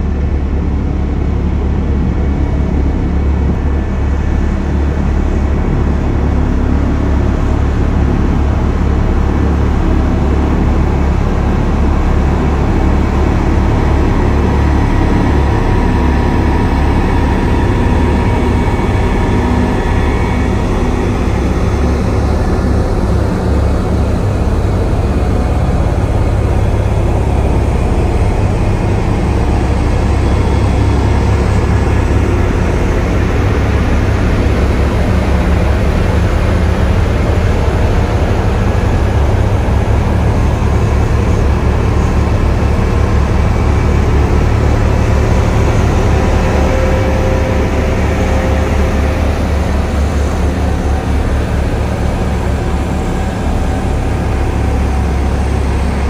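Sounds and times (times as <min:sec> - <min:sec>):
diesel road rollers rumbling: 0:00.0 - 0:56.0.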